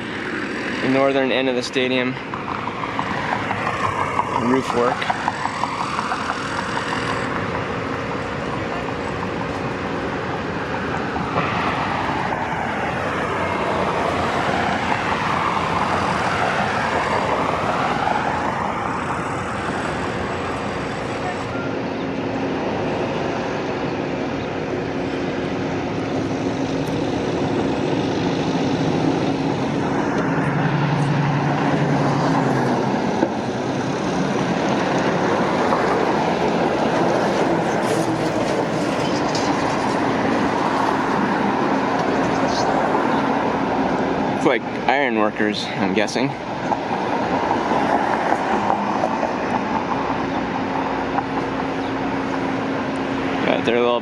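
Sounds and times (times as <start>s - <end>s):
low engine hum: 0.0s - 54.0s
vehicles passing: 0.0s - 54.0s.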